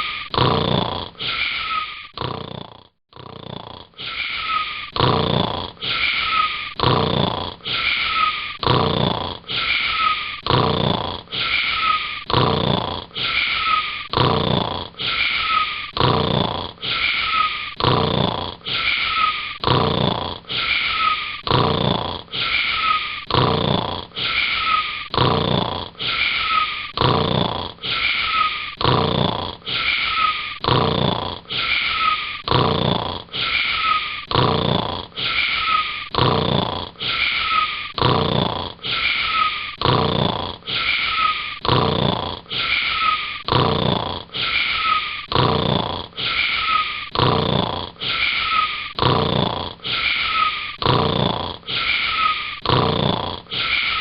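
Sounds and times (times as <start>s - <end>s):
looped snoring: 0.0s - 54.0s.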